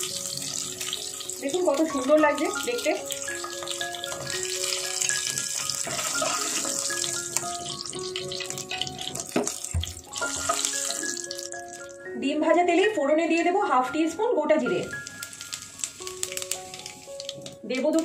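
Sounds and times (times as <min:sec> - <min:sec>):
oil sizzling in a frying pan: 0:00.0 - 0:12.0, 0:14.8 - 0:17.7
light background music: 0:00.0 - 0:18.0.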